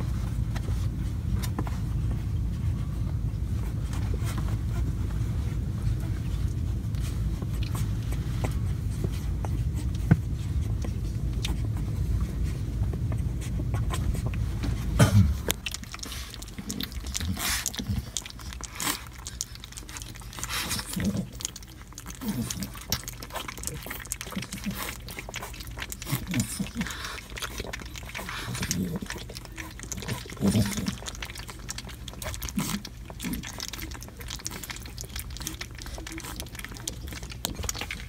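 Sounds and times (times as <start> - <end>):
puppies lapping food: 0.0 - 38.0
steady low rumble: 0.0 - 38.0.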